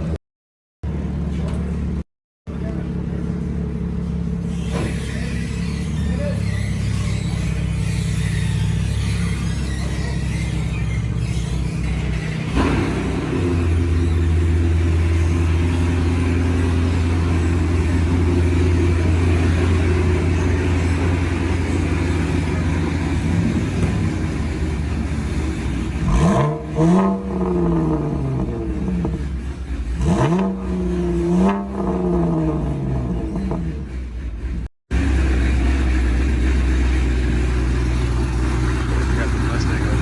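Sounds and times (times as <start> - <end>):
car engine droning: 0.8 - 40.0
car engine revving: 2.6 - 40.0.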